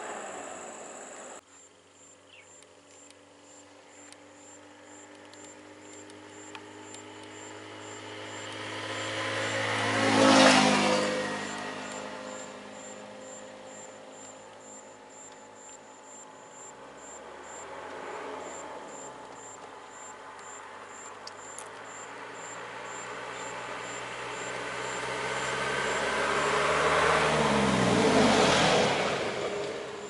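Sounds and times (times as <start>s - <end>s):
motor vehicle passing by: 0.0s - 1.4s, 3.9s - 15.7s, 16.6s - 30.0s.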